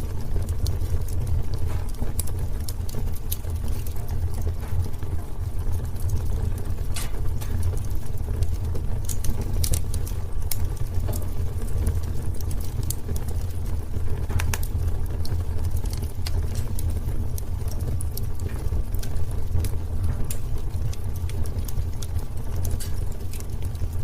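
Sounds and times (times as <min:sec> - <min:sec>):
burning wood crackling and popping: 0:00.0 - 0:24.0
flames rumbling in fireplace: 0:00.0 - 0:24.0.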